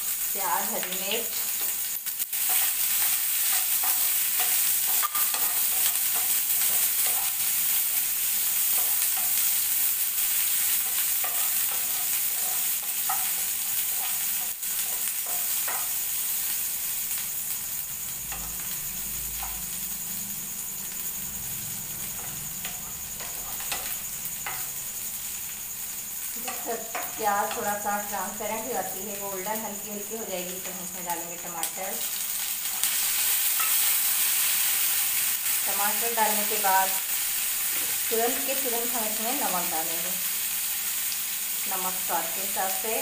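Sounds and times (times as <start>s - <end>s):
onions sizzling in hot oil: 0.0s - 43.0s.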